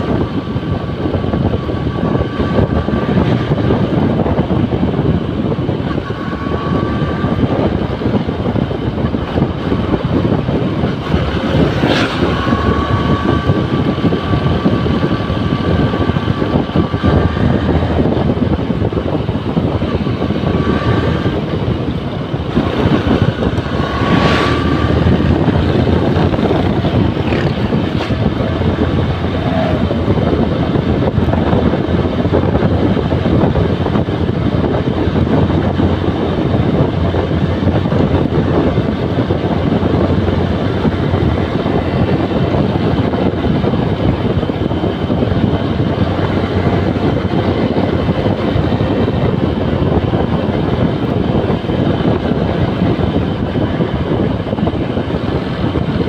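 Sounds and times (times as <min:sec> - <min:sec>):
motorcycle engine: 0:00.0 - 0:56.0
wind rushing on microphone: 0:00.0 - 0:56.0.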